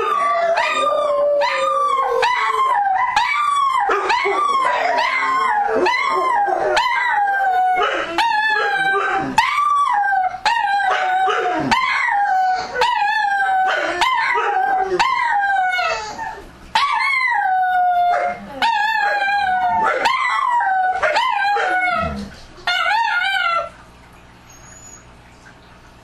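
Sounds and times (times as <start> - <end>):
dogs howling: 0.0 - 23.8.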